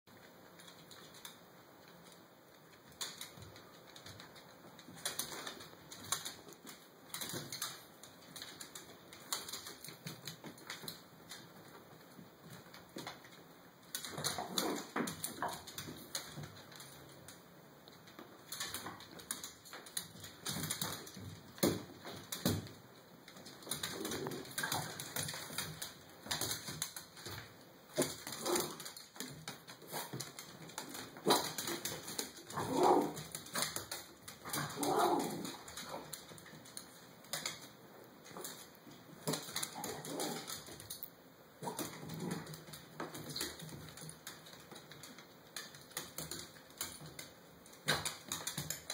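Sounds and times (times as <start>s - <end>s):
dog claws clicking on floor: 0.2s - 48.9s.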